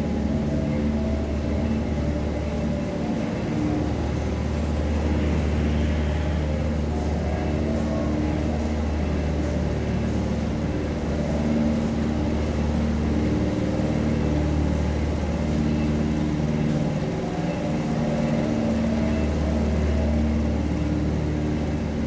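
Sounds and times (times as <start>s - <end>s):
boat motor droning: 0.0s - 22.0s.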